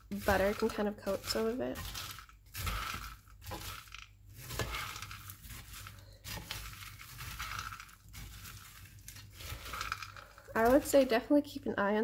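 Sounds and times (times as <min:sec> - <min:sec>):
spatula scraping rice in pan: 0:00.0 - 0:11.2.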